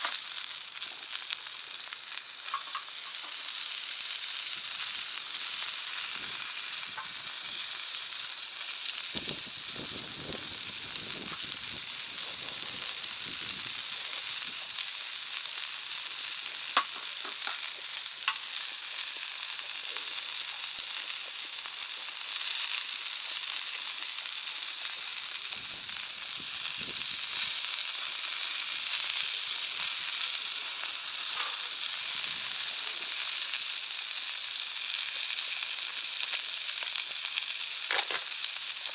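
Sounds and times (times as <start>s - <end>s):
meat sizzling in a grill pan: 0.0s - 38.9s.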